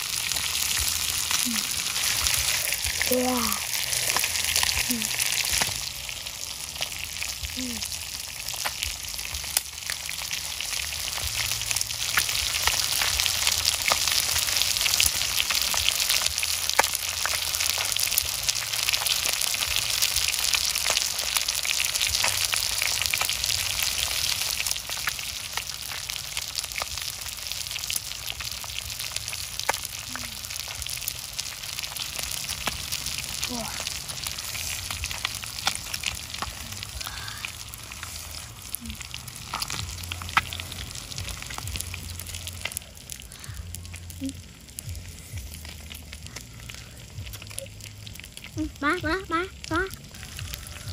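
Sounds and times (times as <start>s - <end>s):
fire pops and crackles: 0.0s - 50.9s
fish sizzling on hot stone: 0.0s - 50.9s.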